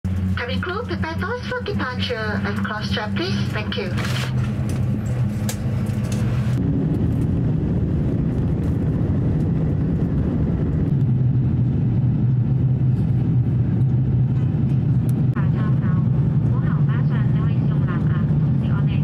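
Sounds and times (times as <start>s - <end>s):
jet engine cabin drone: 0.1s - 19.0s.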